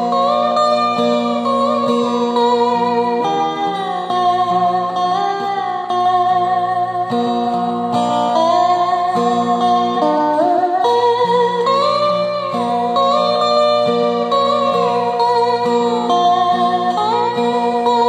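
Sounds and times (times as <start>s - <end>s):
slide steel guitar melody: 0.0s - 18.0s.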